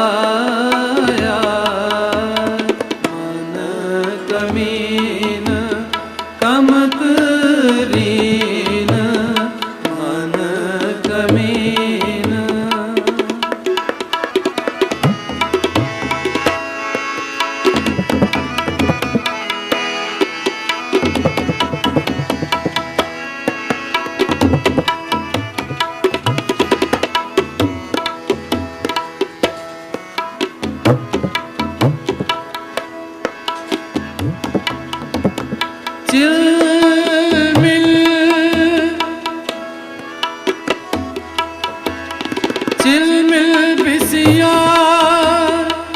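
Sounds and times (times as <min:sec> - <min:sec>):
harmonium notes: 0:00.0 - 0:45.9
tabla playing: 0:00.0 - 0:45.9.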